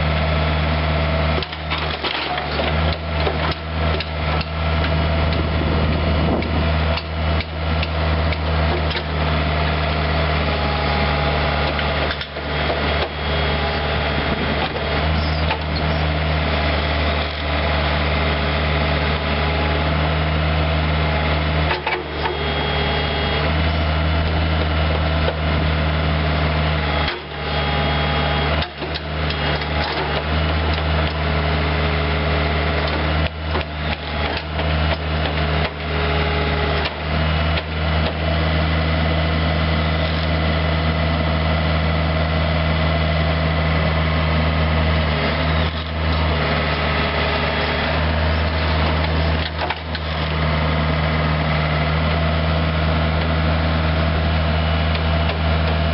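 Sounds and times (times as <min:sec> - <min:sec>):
diesel excavator engine running: 0:00.0 - 0:55.9.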